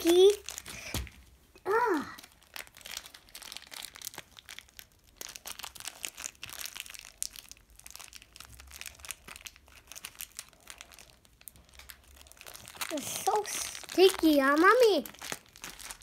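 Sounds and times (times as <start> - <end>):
plastic bag crinkling: 0.0 - 1.3, 2.1 - 16.0.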